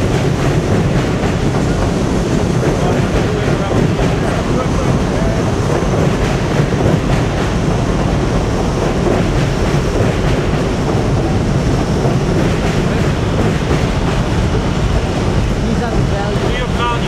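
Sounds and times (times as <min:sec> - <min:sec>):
elevated train passing overhead: 0:00.0 - 0:17.0.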